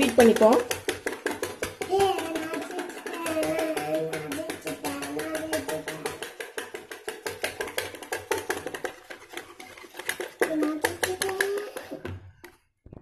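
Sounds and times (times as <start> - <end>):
whisk clattering against bowl: 0.0 - 13.0.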